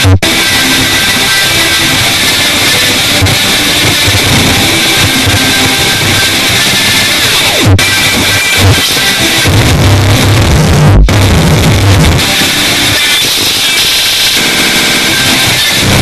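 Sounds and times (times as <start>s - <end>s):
loud music with guitar: 0.0s - 16.0s.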